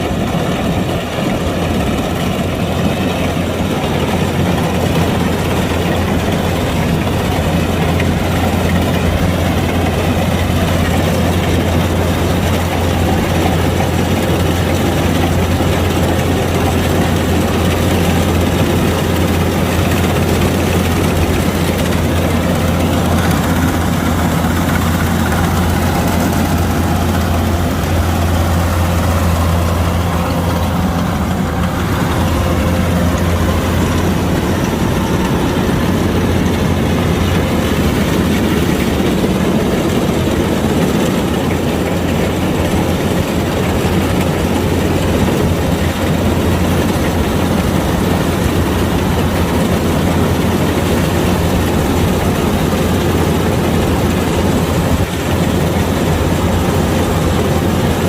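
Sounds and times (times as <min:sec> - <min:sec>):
combine harvester diesel engine drone: 0:00.0 - 0:58.0.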